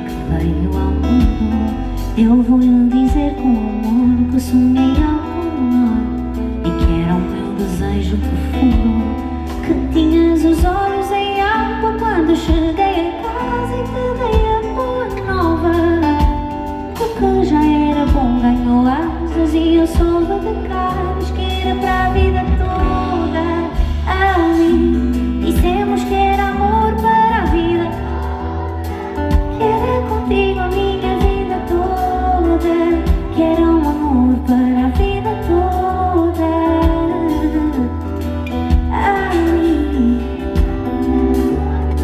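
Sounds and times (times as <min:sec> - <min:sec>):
live band playing: 0:00.0 - 0:42.0
woman singing pop ballad: 0:00.0 - 0:42.0.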